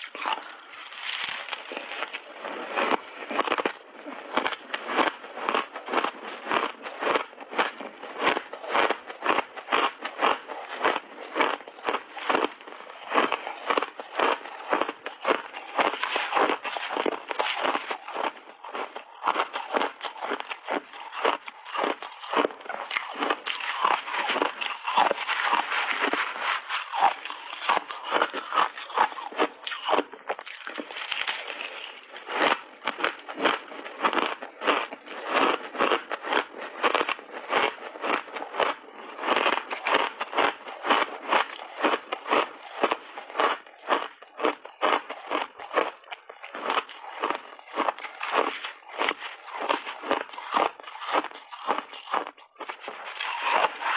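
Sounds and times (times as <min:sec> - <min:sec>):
ice being chewed: 0:00.0 - 0:53.9.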